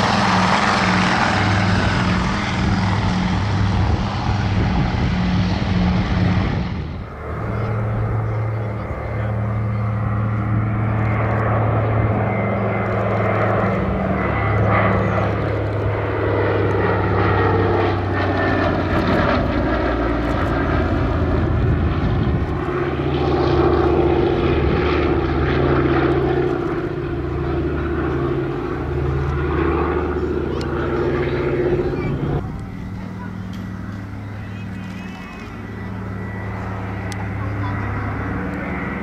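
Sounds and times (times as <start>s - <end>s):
aircraft propeller engines droning: 0.0s - 39.0s.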